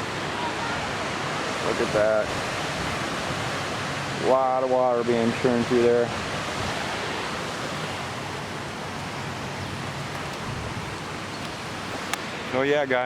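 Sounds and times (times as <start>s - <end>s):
water rushing from dam outlet: 0.0s - 13.0s.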